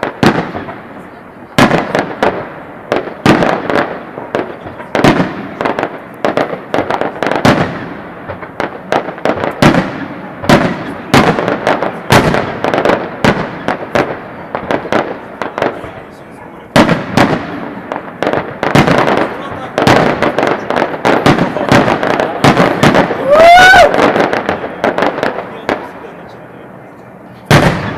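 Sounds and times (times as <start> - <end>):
fireworks bursting with echo: 0.0 - 27.9.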